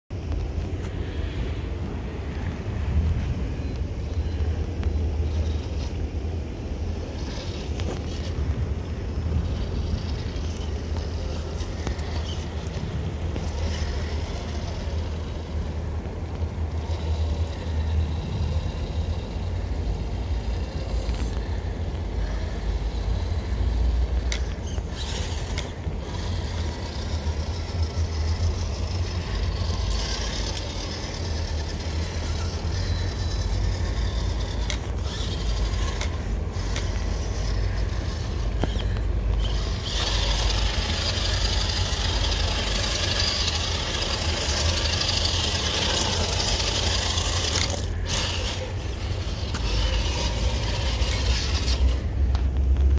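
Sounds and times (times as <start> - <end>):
toy car motor whirring: 3.7 - 52.9.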